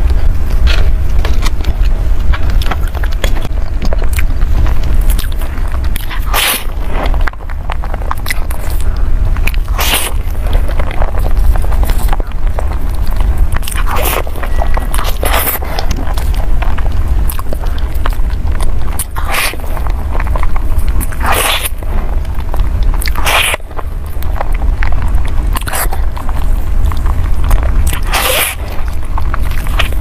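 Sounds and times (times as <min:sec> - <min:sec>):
steady low hum: 0:00.0 - 0:30.0
wet chewing and biting: 0:00.0 - 0:30.0.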